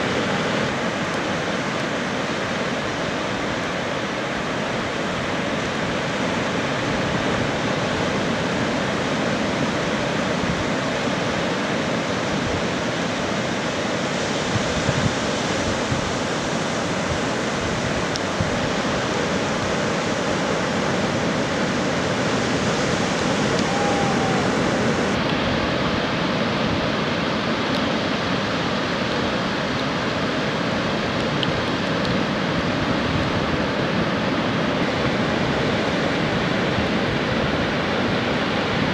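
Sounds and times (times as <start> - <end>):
heavy surf crashing: 0.0 - 38.9.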